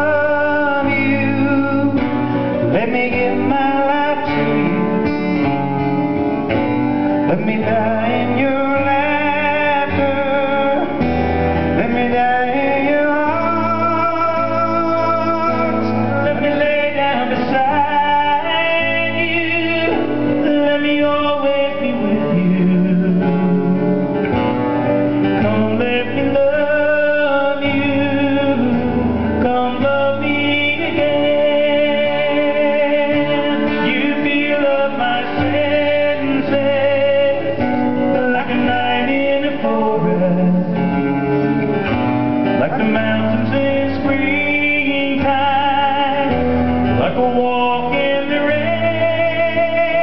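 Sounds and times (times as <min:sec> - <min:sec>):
acoustic guitar and keyboard playing: 0:00.0 - 0:50.0
person singing: 0:00.0 - 0:50.0.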